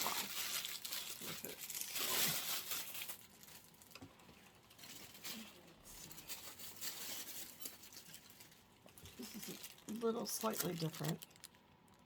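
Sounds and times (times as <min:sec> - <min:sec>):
faint rustling of flower stems: 0:00.0 - 0:12.0.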